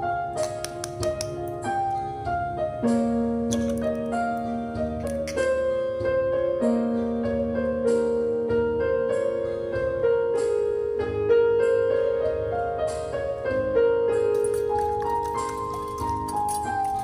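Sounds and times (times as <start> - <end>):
gentle piano tune: 0.0 - 17.0.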